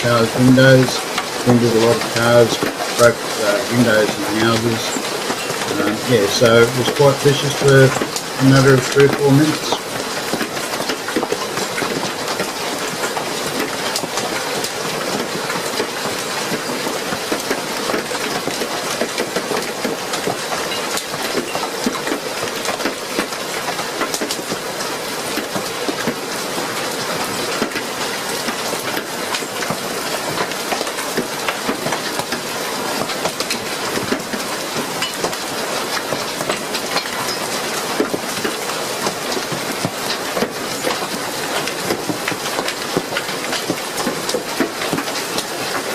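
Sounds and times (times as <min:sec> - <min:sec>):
hail and heavy rain pelting: 0:00.0 - 0:45.9.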